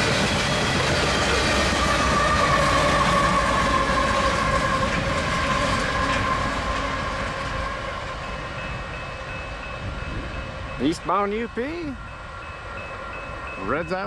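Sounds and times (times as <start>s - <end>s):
train cars rolling on rails: 0.0s - 14.0s.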